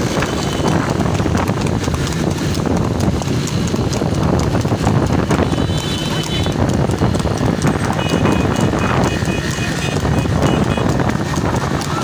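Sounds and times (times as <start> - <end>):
hoofbeats on paved road: 0.0 - 12.0
low rumble of carts and traffic: 0.0 - 12.0.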